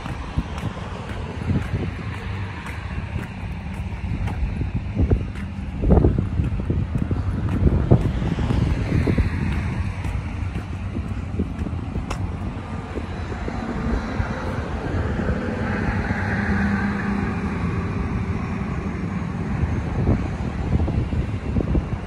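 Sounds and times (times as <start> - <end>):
road traffic passing: 0.0 - 22.0
wind buffeting microphone: 0.0 - 22.0.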